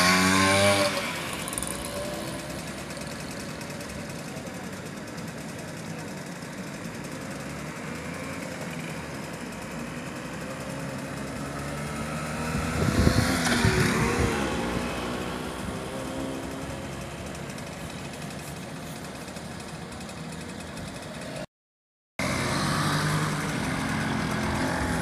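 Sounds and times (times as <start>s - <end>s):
moped engine passing by: 0.0s - 21.5s, 22.2s - 25.0s
mopeds running in background: 0.0s - 21.5s, 22.2s - 25.0s.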